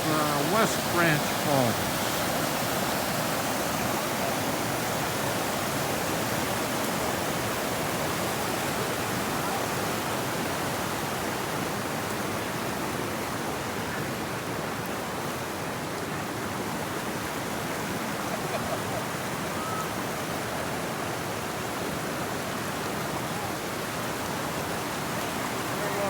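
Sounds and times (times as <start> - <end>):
waterfall rushing: 0.0 - 15.6, 19.0 - 26.0.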